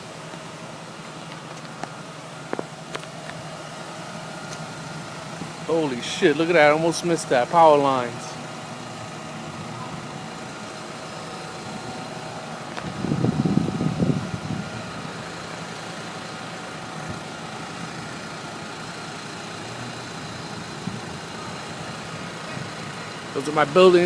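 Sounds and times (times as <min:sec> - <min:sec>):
engine idling hum: 0:00.0 - 0:24.0.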